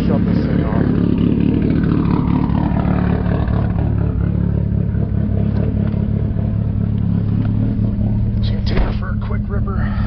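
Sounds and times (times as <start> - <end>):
car engine low drone: 0.0 - 10.0.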